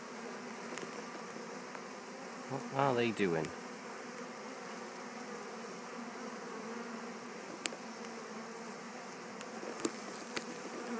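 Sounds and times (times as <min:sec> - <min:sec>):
honey bees buzzing: 0:00.0 - 0:10.9.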